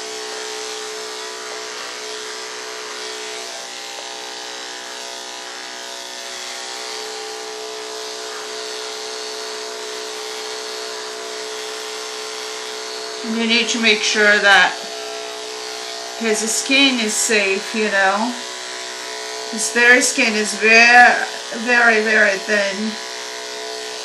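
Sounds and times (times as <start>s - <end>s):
electric clipper buzzing: 0.0s - 24.0s.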